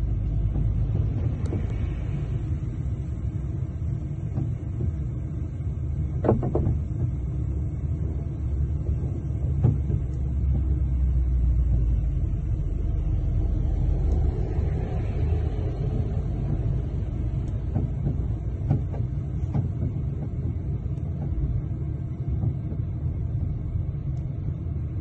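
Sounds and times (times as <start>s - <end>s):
road noise: 0.0s - 25.0s
truck engine rumble: 0.0s - 25.0s.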